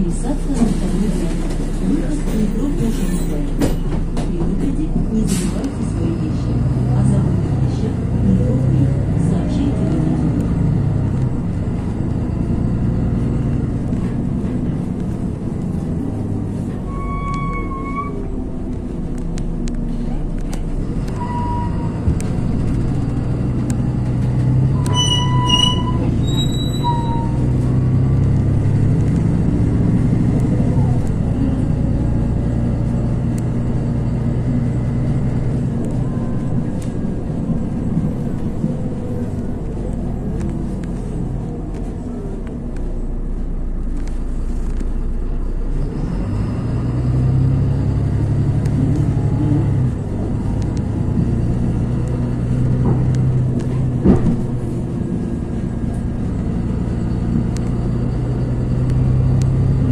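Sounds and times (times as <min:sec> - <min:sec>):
bus diesel engine hum: 0:00.0 - 0:59.9
road rumble: 0:00.0 - 0:59.9.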